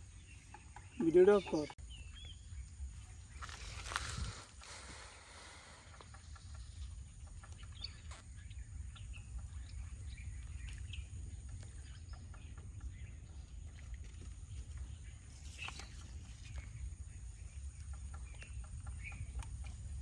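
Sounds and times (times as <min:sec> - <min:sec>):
birds chirping: 0:00.0 - 0:20.0
low steady rumble: 0:01.6 - 0:20.0.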